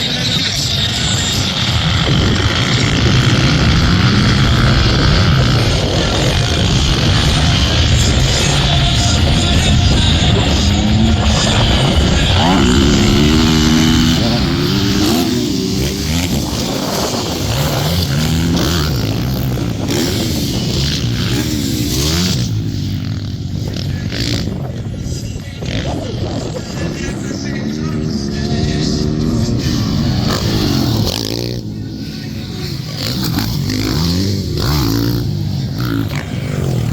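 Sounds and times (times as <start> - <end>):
motocross bike engines revving: 0.0 - 36.9.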